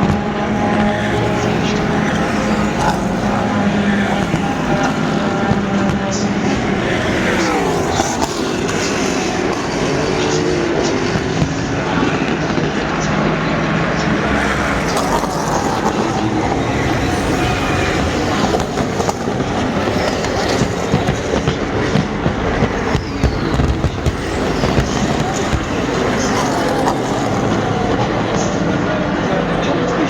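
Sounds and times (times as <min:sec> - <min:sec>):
engine pops and crackles: 0:00.0 - 0:30.0
race car engines at speed: 0:00.0 - 0:30.0.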